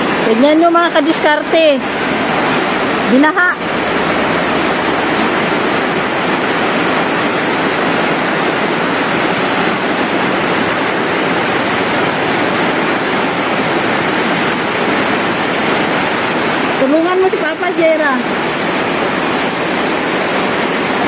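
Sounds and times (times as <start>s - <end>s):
floodwater rushing: 0.0s - 21.0s
heavy rain: 0.0s - 21.0s.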